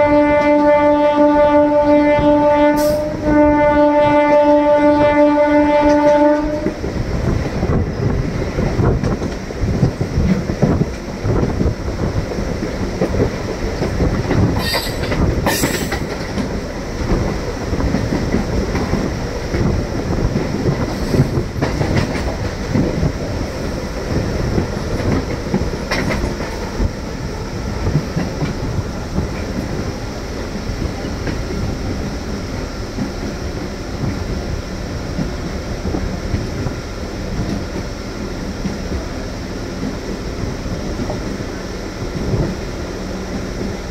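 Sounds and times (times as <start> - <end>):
train wheels clattering over rails: 5.8 - 43.9.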